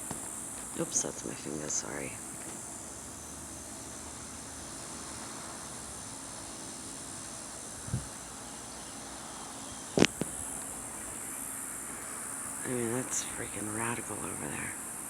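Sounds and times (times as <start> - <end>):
background hiss: 0.0 - 15.0
faint low hum: 0.0 - 15.0.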